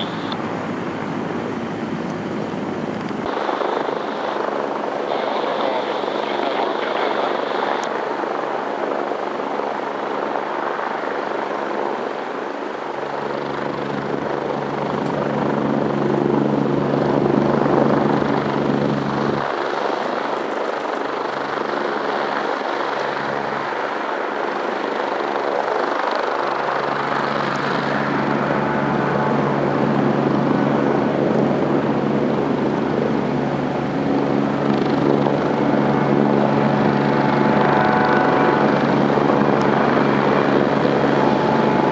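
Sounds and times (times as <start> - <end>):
jet engines at high power: 0.0 - 41.9.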